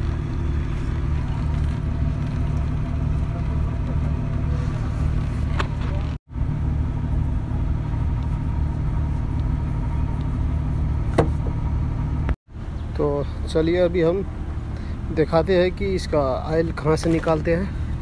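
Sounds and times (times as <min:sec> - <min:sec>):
large engine idling: 0:00.0 - 0:18.0.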